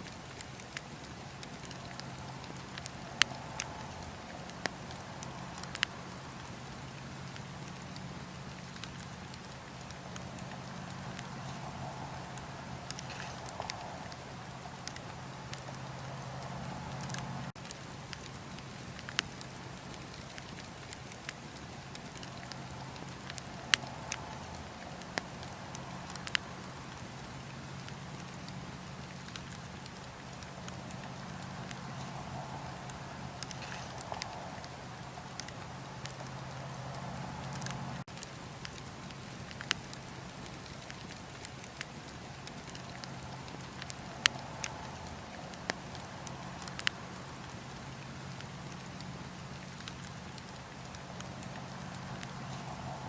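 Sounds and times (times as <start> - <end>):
bonfire crackling: 0.0 - 53.0
low steady hum: 0.0 - 53.0
sharp pops of burning wood: 0.1 - 53.0.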